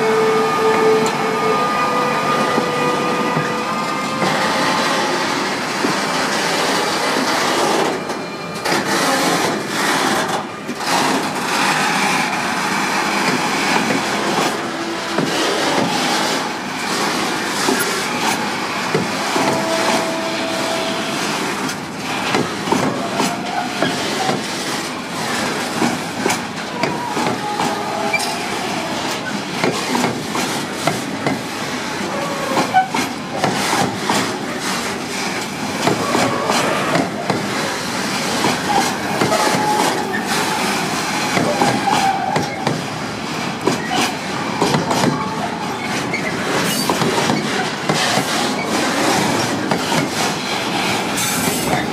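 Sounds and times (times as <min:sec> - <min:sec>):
wheels squealing against rail: 0:00.0 - 0:12.4, 0:13.2 - 0:21.7, 0:22.7 - 0:30.4, 0:32.0 - 0:37.7, 0:38.3 - 0:42.8, 0:43.6 - 0:49.8, 0:51.2 - 0:51.9
train wheels clattering on rails: 0:02.4 - 0:51.9.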